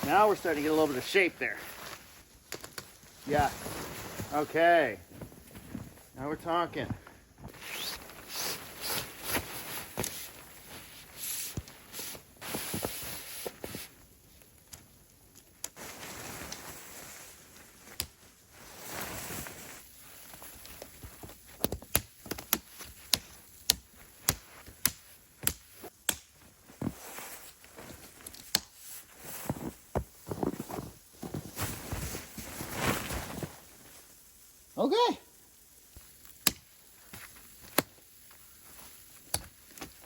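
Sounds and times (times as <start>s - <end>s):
tent fabric rustling: 0.0s - 35.1s.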